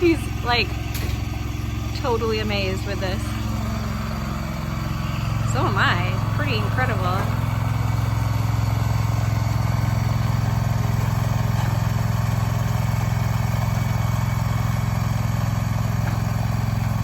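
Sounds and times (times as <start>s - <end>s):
engine humming under load: 0.0s - 17.0s.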